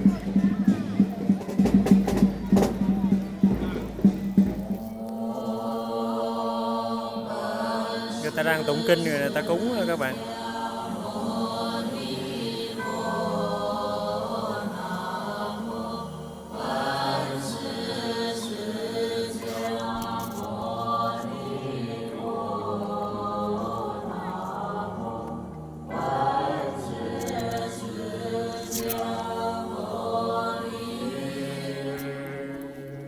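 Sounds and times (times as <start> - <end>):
group chanting in unison: 0.0 - 33.0.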